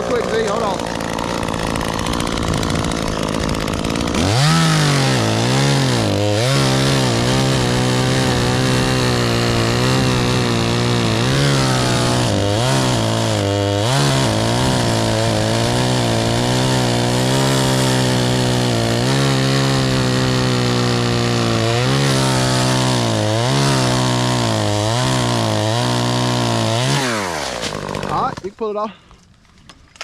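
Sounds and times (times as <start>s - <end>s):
chainsaw cutting wood: 0.0s - 28.7s.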